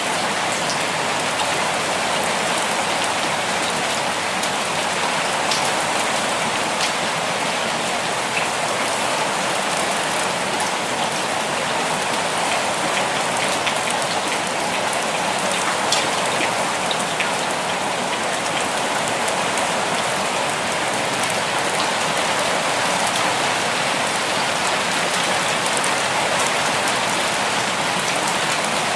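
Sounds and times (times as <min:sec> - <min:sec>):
raindrops ticking on a surface: 0:02.2 - 0:28.9.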